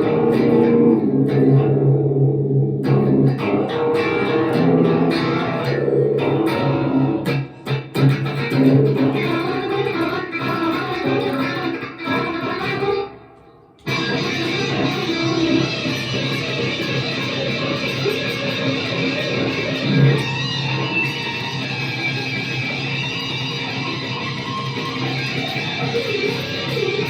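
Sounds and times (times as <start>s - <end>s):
guitar picked notes: 0.0s - 27.0s.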